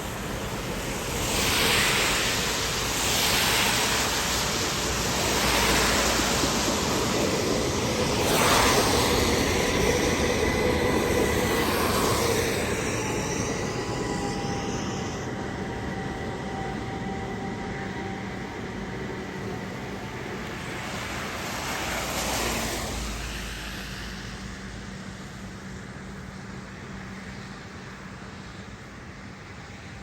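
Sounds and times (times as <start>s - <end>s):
tram running: 0.0s - 28.2s.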